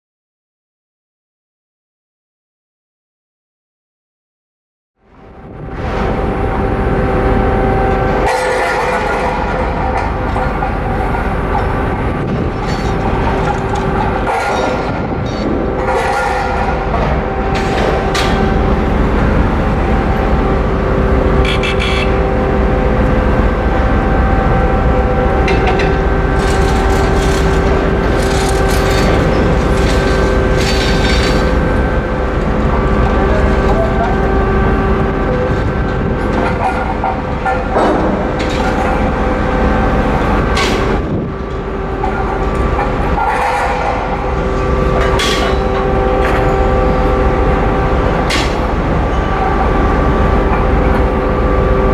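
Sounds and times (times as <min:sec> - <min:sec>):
ship engines rumbling: 0:05.0 - 0:51.9.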